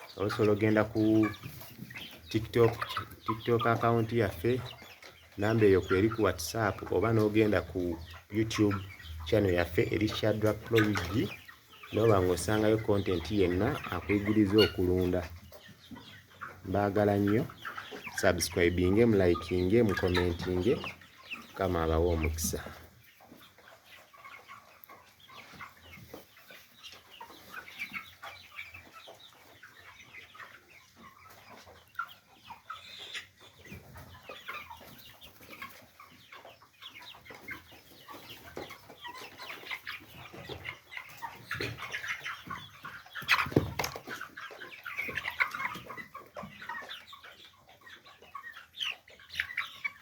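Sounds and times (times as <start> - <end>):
chickens peeping and clucking: 0.0 - 50.0.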